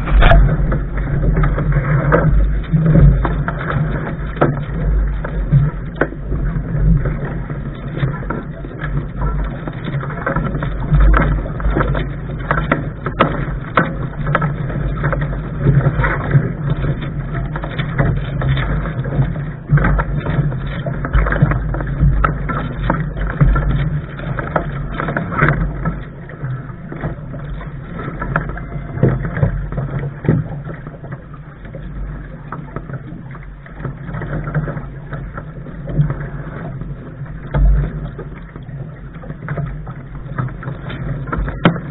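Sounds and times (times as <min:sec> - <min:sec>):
short splashes and knocks: 0:00.0 - 0:41.9
steady low rumble: 0:00.0 - 0:41.9
water rushing against hull: 0:00.0 - 0:41.9.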